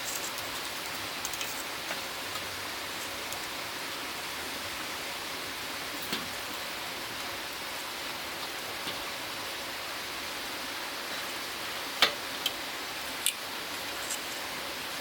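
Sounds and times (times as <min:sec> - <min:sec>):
wood fire hissing: 0:00.0 - 0:15.0.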